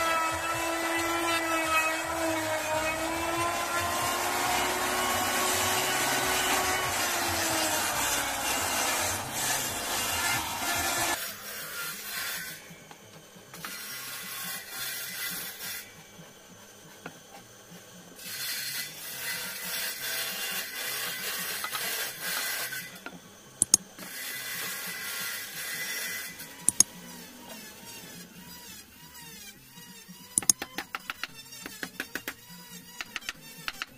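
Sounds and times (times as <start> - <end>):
wood router cutting: 0.0 - 16.1, 17.0 - 33.9.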